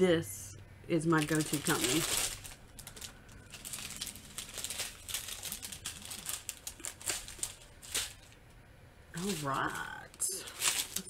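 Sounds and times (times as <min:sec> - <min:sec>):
plastic bags crinkling: 0:01.0 - 0:08.4, 0:09.2 - 0:11.0.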